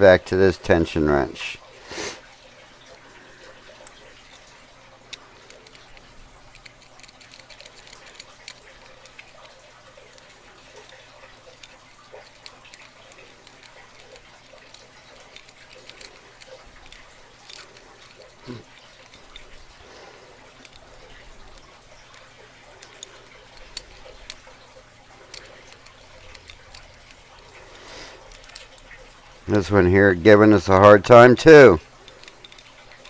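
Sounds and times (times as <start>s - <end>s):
faint steady hum: 0.0s - 33.0s
lock picking metallic clicks: 5.1s - 19.8s, 20.6s - 33.0s.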